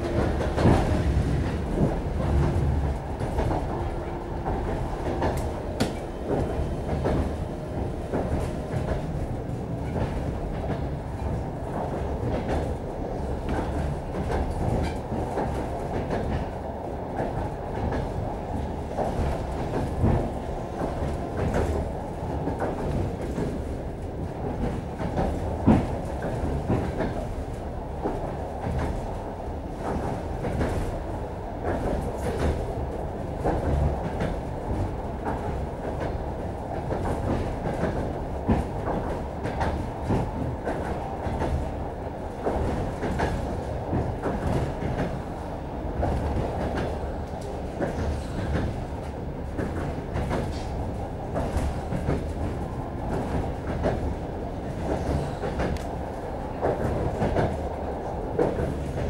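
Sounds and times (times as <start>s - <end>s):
train rumble inside carriage: 0.0s - 59.0s.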